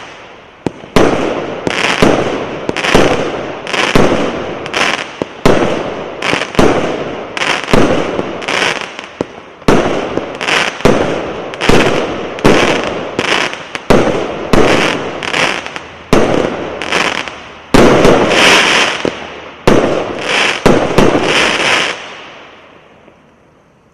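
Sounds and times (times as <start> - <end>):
fireworks shots: 0.0 - 22.6.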